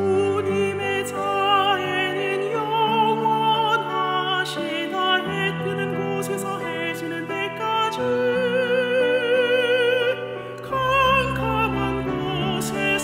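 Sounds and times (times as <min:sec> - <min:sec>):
woman singing hymn: 0:00.0 - 0:13.0.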